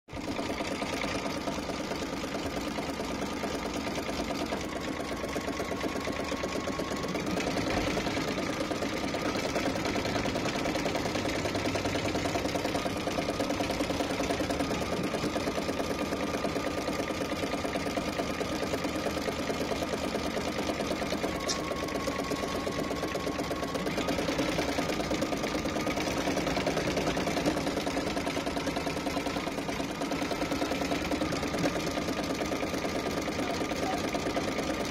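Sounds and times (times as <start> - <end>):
embroidery machine needle stitching: 0.1 - 34.9.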